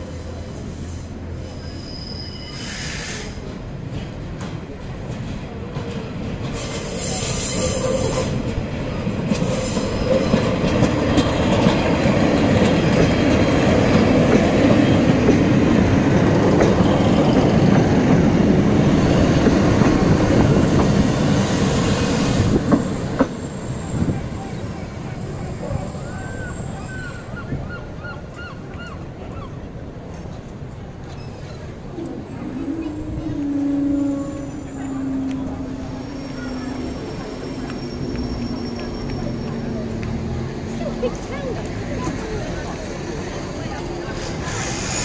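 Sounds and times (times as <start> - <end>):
train wheels and engines passing: 0.0 - 45.0.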